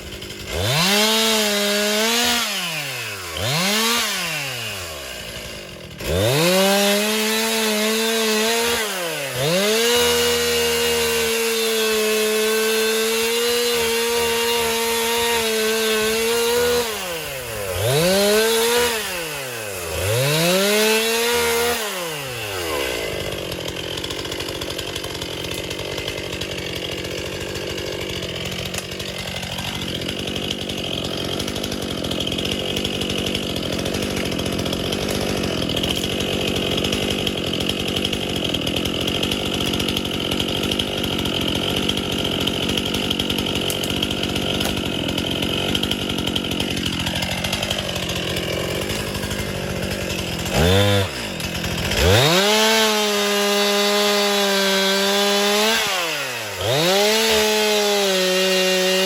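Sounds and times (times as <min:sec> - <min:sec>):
chainsaw revving and cutting wood: 0:00.0 - 0:59.0.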